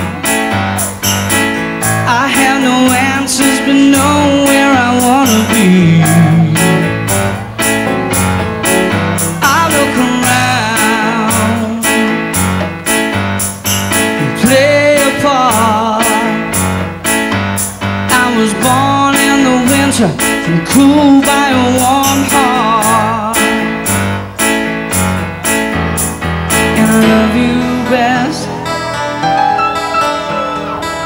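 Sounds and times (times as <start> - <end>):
live soft rock band: 0.0 - 31.0.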